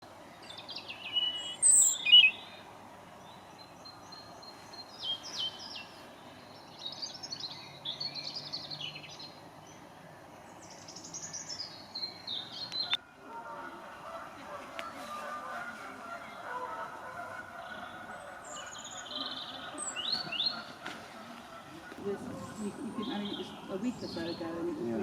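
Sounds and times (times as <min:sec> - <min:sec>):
songbirds chirping and trilling: 0:00.0 - 0:25.0
steady background hiss: 0:00.0 - 0:25.0.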